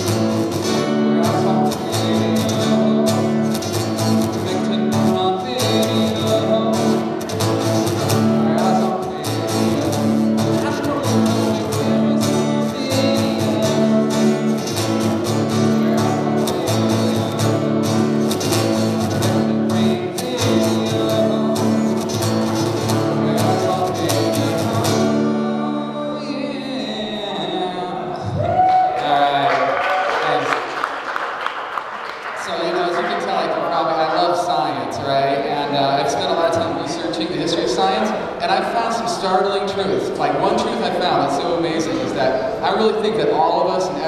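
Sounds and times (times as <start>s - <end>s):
acoustic guitar strumming: 0.0s - 28.3s, 32.4s - 44.0s.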